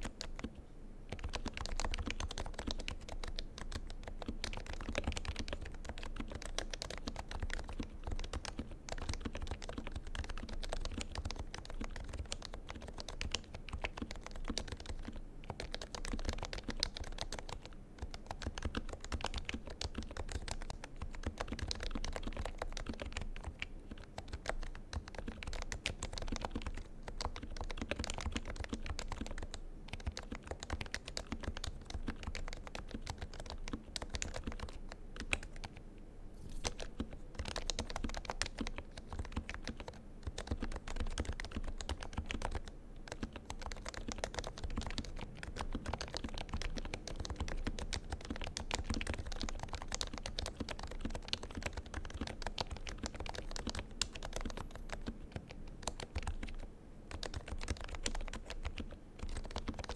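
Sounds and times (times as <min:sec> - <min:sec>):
fast keyboard typing: 0:00.0 - 0:35.8, 0:36.5 - 0:59.9.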